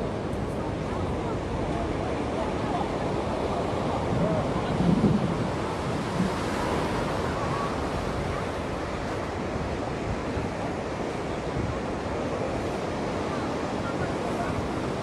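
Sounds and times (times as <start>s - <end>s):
ocean surf on beach: 0.0s - 15.0s
wind buffeting microphone: 0.0s - 15.0s.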